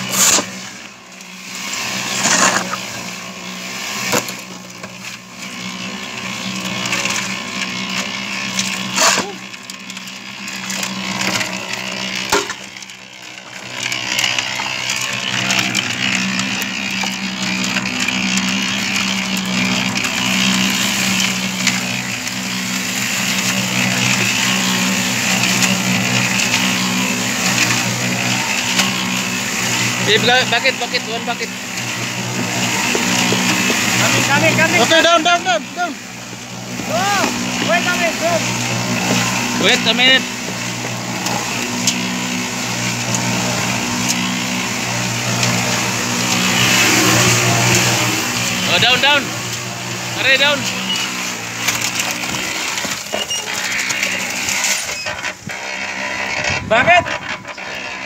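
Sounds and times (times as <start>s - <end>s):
concrete mixer motor humming: 0.0s - 58.0s.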